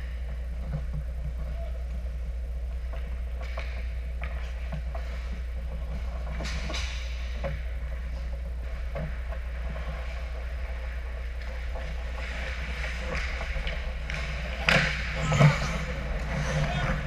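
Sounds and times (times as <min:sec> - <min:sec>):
low hum: 0:00.0 - 0:17.0
hockey sticks clicking and knocking: 0:02.7 - 0:17.0
skates scraping ice: 0:02.7 - 0:17.0.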